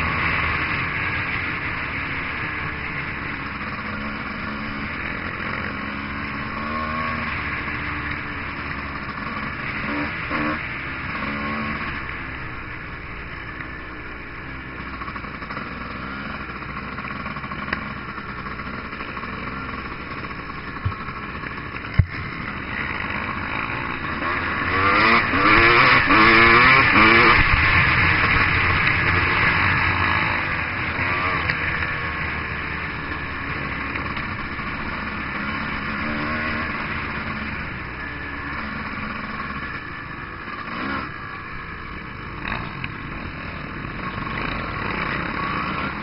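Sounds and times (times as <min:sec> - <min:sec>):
dirt bike engine revving: 0:00.0 - 0:13.4, 0:14.1 - 0:46.0.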